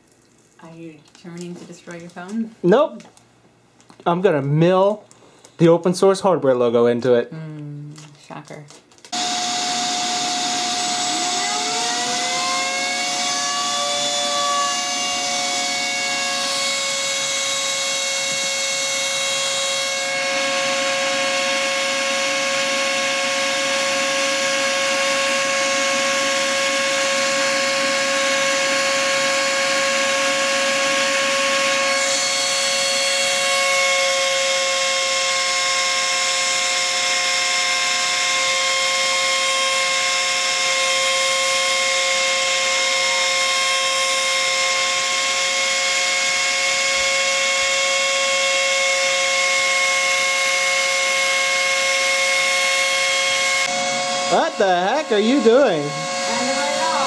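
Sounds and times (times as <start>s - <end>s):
high-pitched spindle motor whine: 9.1s - 57.0s.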